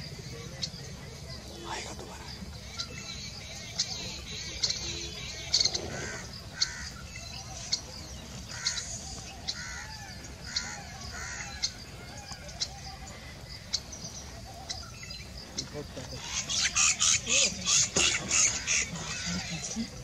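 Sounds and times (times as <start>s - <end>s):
forest birds calling: 0.0s - 20.0s.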